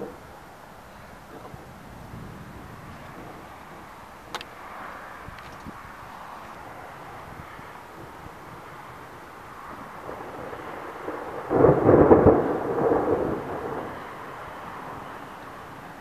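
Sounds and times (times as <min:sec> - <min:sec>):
steady background hiss: 0:00.0 - 0:16.0
thunder rumble: 0:01.1 - 0:06.0, 0:06.6 - 0:16.0.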